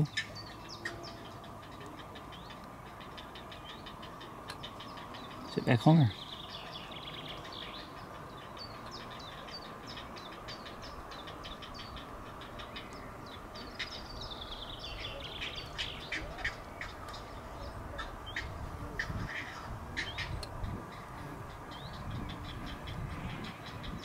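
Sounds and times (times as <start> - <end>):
heron chicks clicking calls: 0.0 - 17.4, 18.0 - 24.0.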